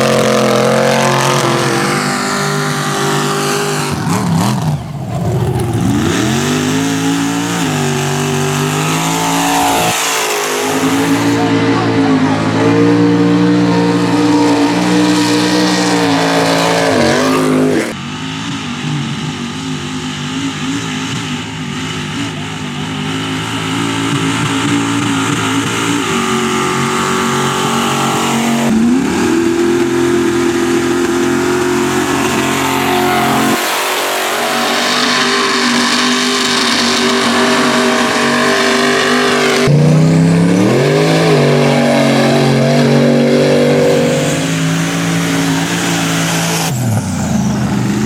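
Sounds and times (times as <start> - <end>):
truck engines revving: 0.0 - 48.0.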